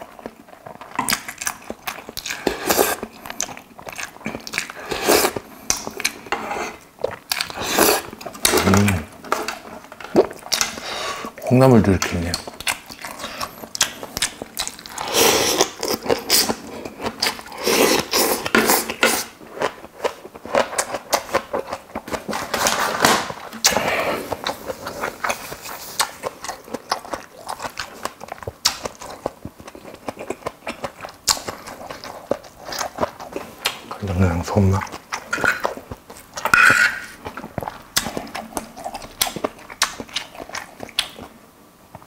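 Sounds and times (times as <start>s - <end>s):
chewing and slurping: 0.0s - 41.3s.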